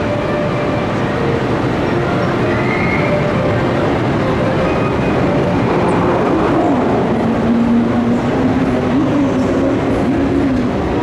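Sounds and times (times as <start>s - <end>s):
electric train wheel rumble: 0.0s - 11.0s
humming whine of running gear: 0.0s - 11.0s.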